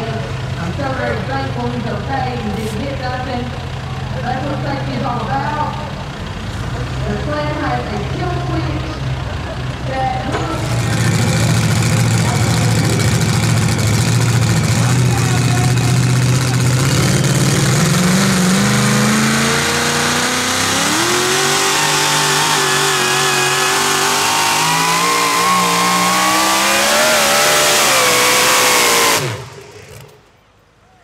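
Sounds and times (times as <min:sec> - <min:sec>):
engine running hard under load: 0:00.0 - 0:30.4.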